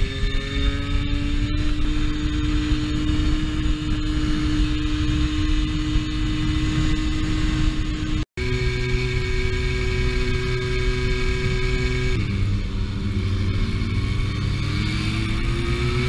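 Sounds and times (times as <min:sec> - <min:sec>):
moped engine at high revs: 0:00.0 - 0:16.0
wind rumble on microphone: 0:00.0 - 0:16.0.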